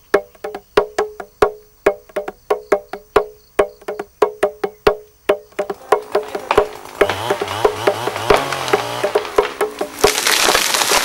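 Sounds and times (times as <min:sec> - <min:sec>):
wooden percussion melody: 0:00.0 - 0:11.0.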